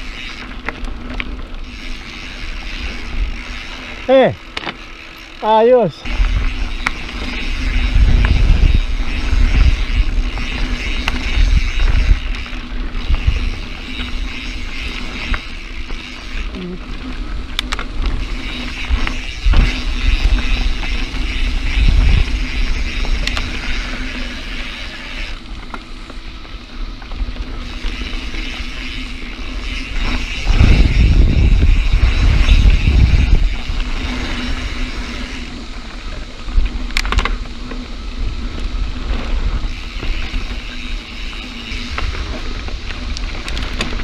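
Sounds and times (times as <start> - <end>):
bike rattling: 0.0 - 44.0
wind buffeting microphone: 5.9 - 44.0.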